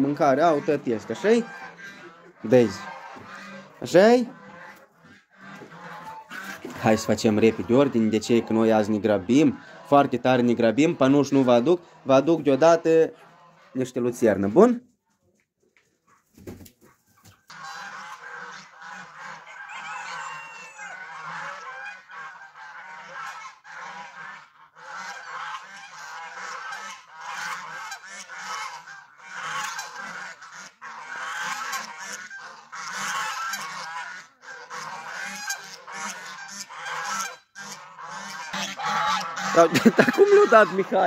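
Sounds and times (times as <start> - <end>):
geese honking: 0.0 - 14.8, 17.0 - 41.0.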